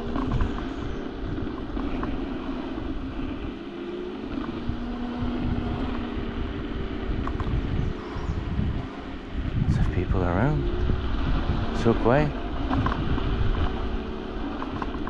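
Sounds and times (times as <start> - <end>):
low electric drive hum: 0.0 - 15.0
scooter rumbling over bumps: 0.0 - 15.0
wind buffeting microphone: 0.0 - 15.0.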